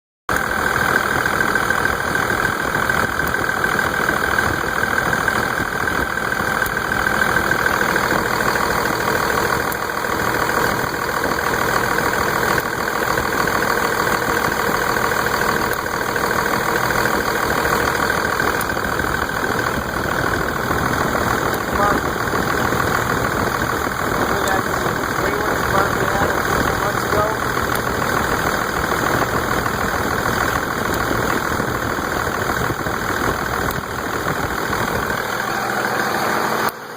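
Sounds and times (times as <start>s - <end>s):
car engine idling: 0.3s - 36.9s.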